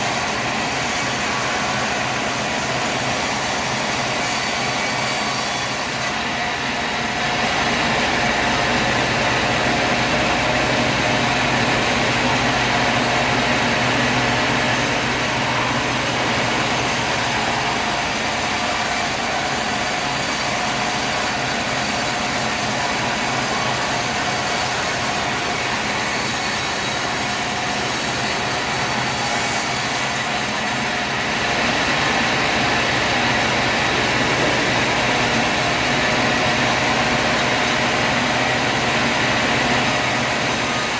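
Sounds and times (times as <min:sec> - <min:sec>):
saw cutting log: 0:00.0 - 0:40.9.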